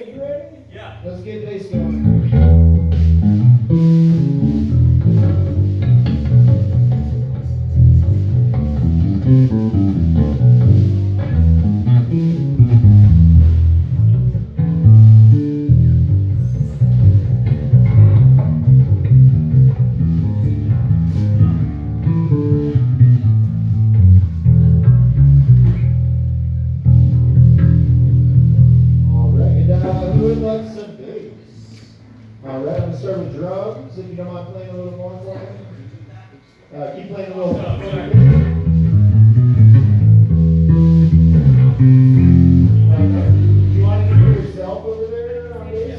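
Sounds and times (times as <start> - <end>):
electric bass guitar playing: 1.7 - 30.7, 37.7 - 45.9.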